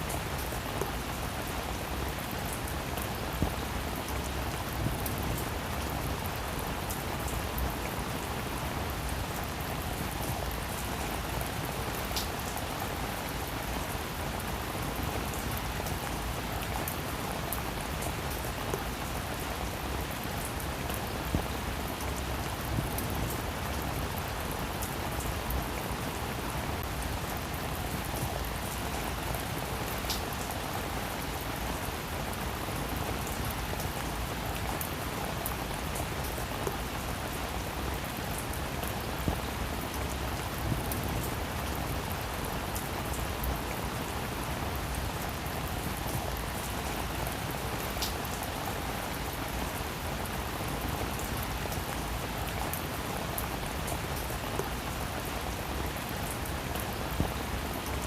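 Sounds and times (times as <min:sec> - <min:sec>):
rain hissing on a roof: 0:00.0 - 0:58.0
raindrops ticking on a surface: 0:00.0 - 0:58.0.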